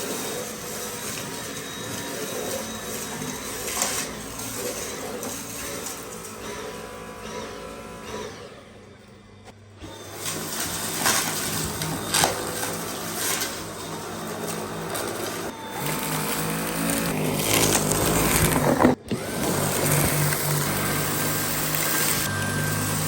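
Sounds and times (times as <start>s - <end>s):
vacuum motor hum: 0.0s - 23.0s.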